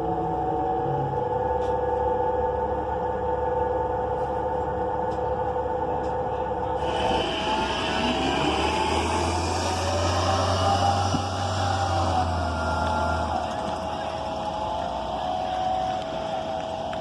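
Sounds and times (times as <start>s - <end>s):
bus engine hum: 0.0s - 17.0s
drivetrain whine rising: 0.0s - 17.0s.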